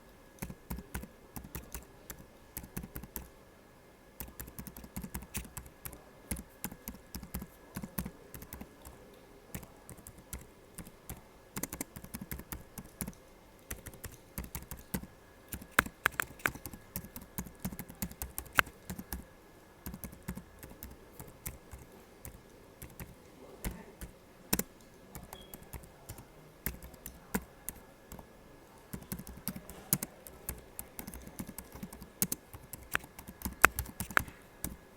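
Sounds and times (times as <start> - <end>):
typing on laptop keyboard: 0.4 - 3.3, 4.2 - 19.2, 19.8 - 28.3, 28.9 - 34.8.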